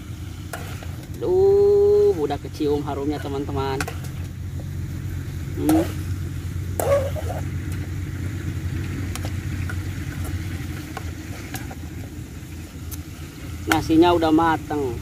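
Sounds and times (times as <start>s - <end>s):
low engine-like drone: 0.0s - 15.0s.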